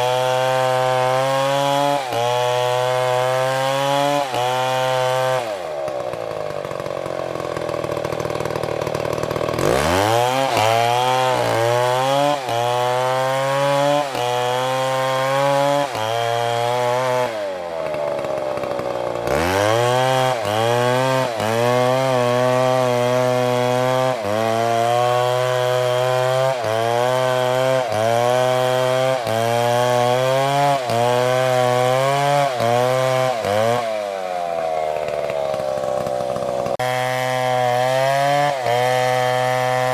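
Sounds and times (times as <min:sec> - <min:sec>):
chainsaw idling and cutting wood: 0:00.0 - 0:39.9.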